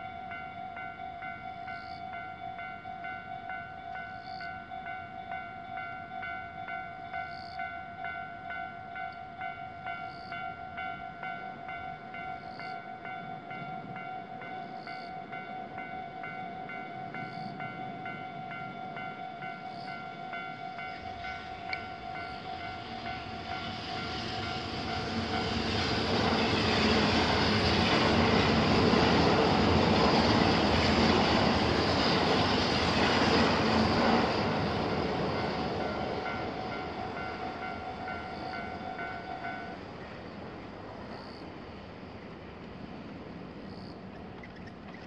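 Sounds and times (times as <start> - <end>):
railway crossing warning bell: 0.0 - 44.0
train passing: 0.0 - 45.0.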